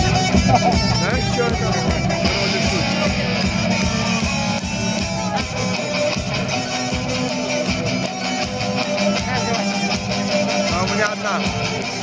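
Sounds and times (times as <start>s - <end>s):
drums with steady beat: 0.0s - 12.0s
strummed guitar: 0.0s - 12.0s.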